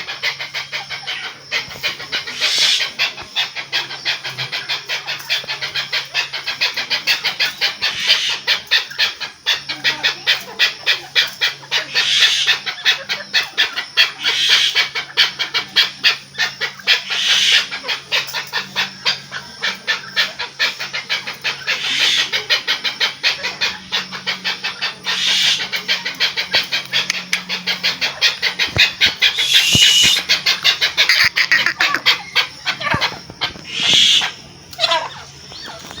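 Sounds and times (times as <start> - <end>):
partridge calling: 0.0 - 36.0.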